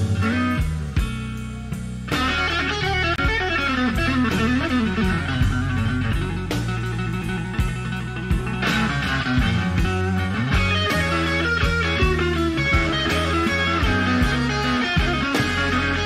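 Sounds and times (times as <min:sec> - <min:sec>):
lead electric guitar bending notes: 0:00.0 - 0:16.0
slow electric blues: 0:00.0 - 0:16.0.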